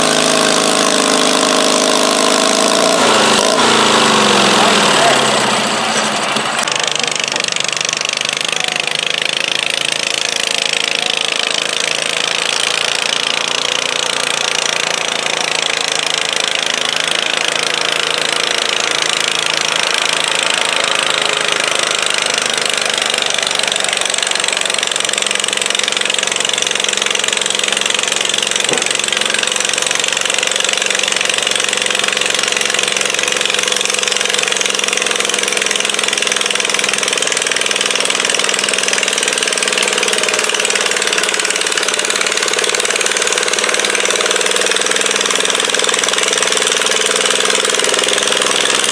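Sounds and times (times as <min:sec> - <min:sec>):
tractor engine running under load: 0:00.0 - 0:48.9.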